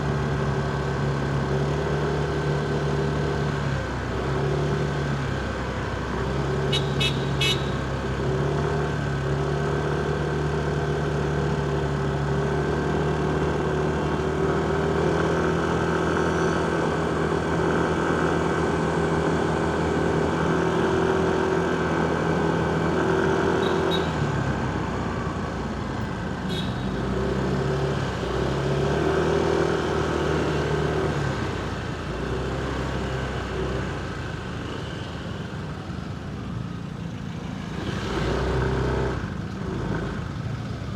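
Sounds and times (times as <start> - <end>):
city traffic: 0.0 - 40.9.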